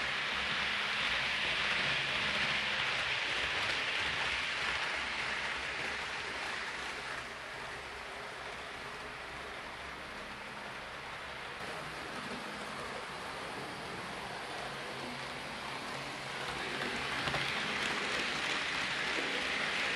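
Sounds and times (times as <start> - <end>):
model train whirring: 0.0 - 19.9.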